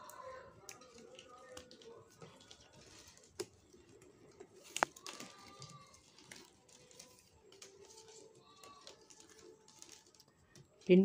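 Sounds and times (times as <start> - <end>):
plastic strips rustling: 0.0 - 11.0.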